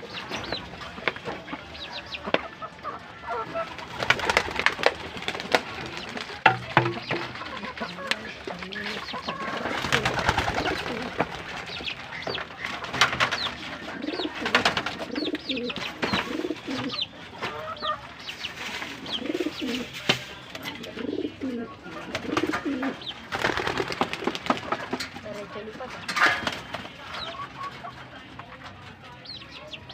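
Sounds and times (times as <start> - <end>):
doves cooing: 0.0 - 29.9.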